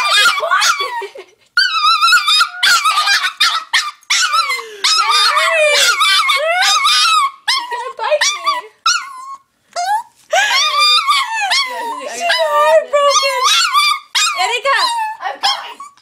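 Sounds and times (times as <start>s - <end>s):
dog whining and crying: 0.0s - 16.0s.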